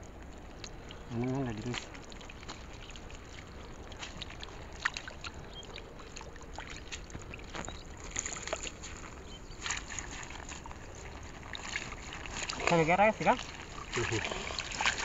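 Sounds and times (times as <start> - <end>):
fish splashing in shallow water: 0.0 - 15.0
water sloshing in net: 0.0 - 15.0.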